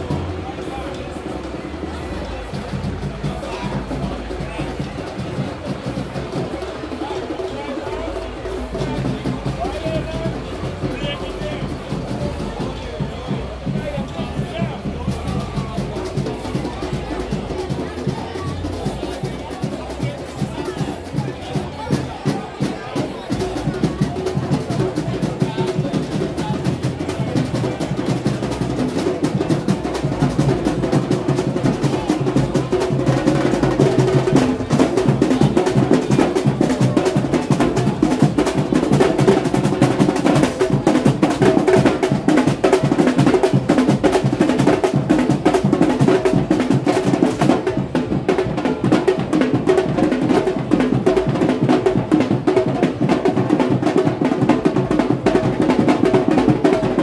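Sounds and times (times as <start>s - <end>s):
drum band playing: 0.0s - 57.0s.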